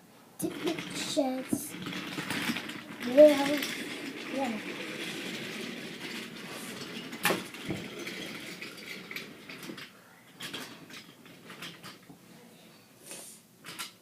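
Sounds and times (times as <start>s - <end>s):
wooden toy trains clacking: 0.4s - 12.1s, 13.6s - 14.0s.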